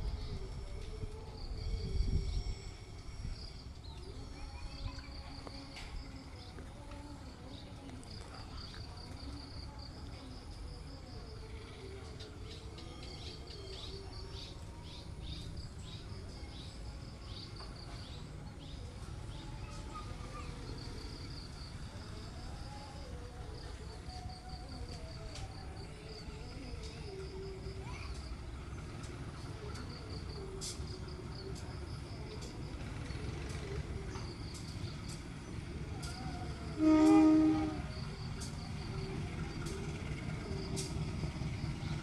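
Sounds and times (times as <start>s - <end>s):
insects chirping in trills: 0.0s - 42.0s
low outdoor rumble: 0.0s - 42.0s.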